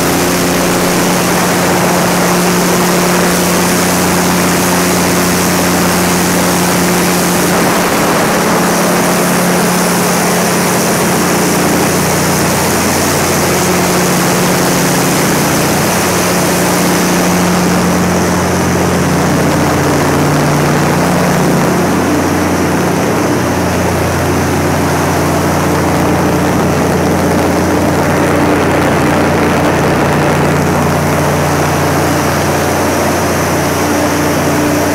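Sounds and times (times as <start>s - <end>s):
diesel generator running: 0.0s - 34.9s.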